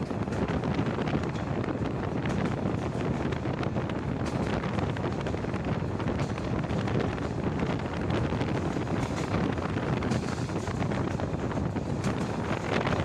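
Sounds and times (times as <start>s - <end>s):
train wheels rumbling: 0.0s - 13.0s
wind rushing over microphone: 0.0s - 13.0s.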